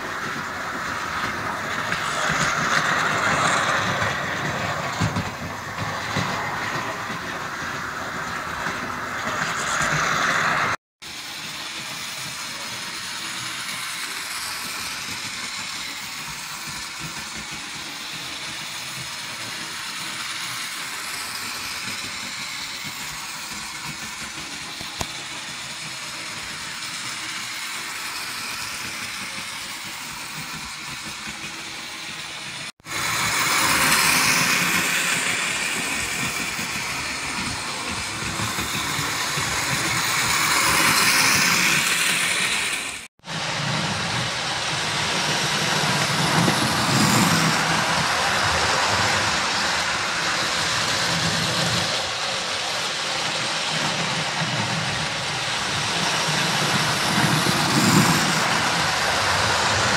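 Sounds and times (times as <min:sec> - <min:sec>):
model train motors whirring on rails: 0:00.0 - 0:59.9.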